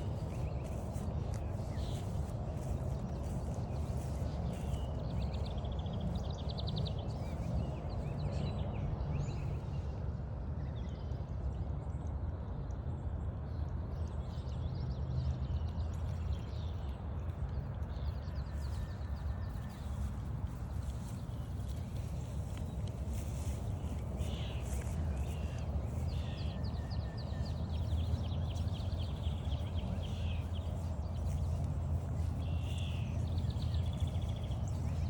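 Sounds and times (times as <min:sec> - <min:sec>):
birds calling and singing: 0:00.0 - 0:09.8, 0:15.5 - 0:35.0.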